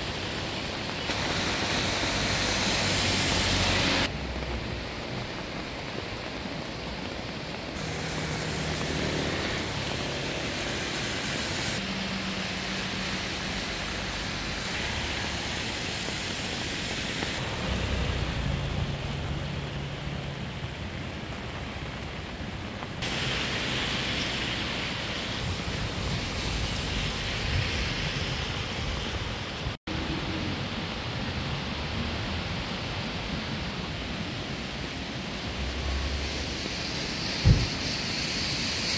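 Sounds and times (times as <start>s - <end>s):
flooded stream rushing: 0.0s - 38.9s
rain falling: 0.0s - 38.9s.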